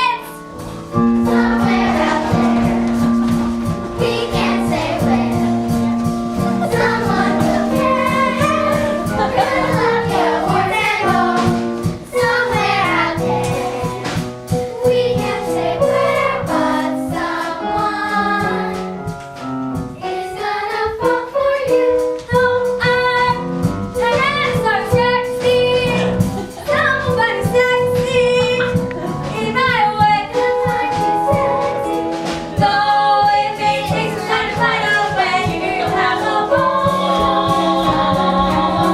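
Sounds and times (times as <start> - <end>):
young voices singing together: 0.0 - 19.2, 20.0 - 23.4, 24.0 - 38.9
instrumental accompaniment: 0.0 - 38.9.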